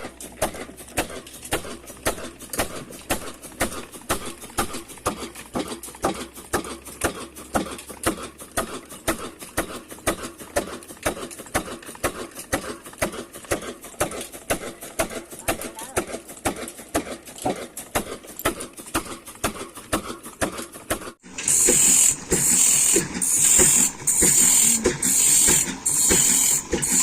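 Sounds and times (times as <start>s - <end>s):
old engine knocking: 0.0s - 27.0s.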